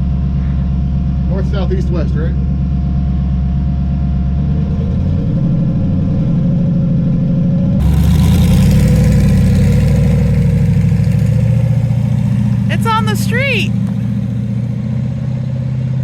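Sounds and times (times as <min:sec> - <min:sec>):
car engine running loud: 0:00.0 - 0:16.0.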